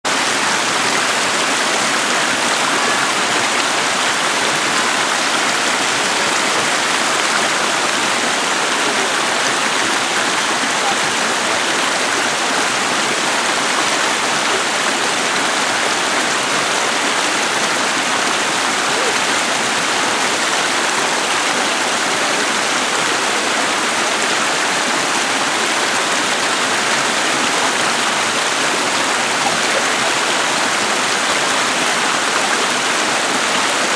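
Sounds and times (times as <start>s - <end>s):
creek water rushing over rocks: 0.0s - 33.9s.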